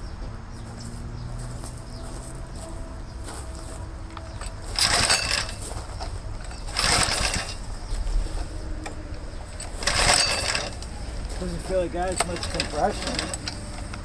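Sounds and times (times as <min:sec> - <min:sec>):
recoil starter rope whirring: 0:01.8 - 0:14.0.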